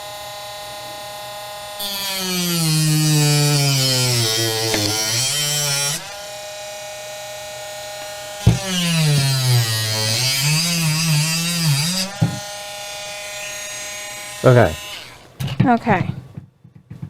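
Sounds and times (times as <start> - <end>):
rotary tool cutting wood: 0.0 - 15.6.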